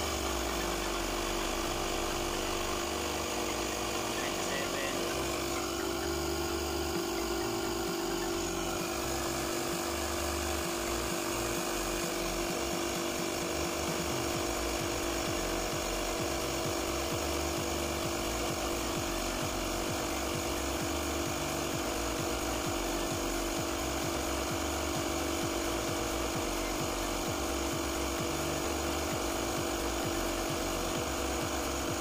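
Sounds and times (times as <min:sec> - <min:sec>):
tire inflator compressor running: 0:00.0 - 0:32.0.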